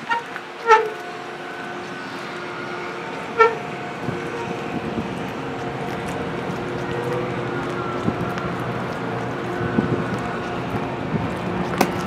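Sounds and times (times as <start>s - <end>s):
steady mechanical hum: 0.3s - 12.0s.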